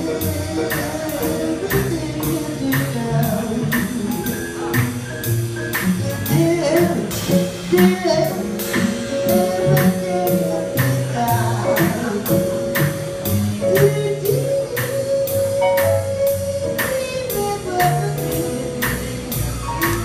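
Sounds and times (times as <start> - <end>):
walking upright bass: 0.0 - 20.0.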